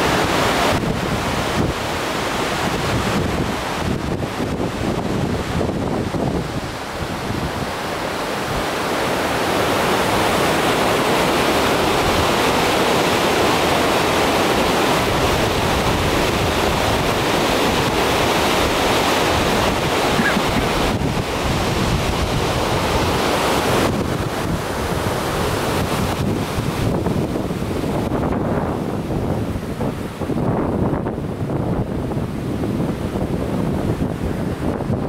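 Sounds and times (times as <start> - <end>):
waterfall roaring over rock: 0.0 - 35.0
wind buffeting microphone: 0.0 - 35.0.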